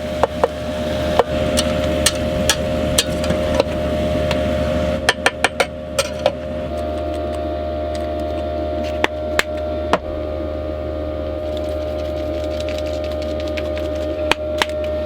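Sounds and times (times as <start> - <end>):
heater buzzing: 0.0 - 15.0.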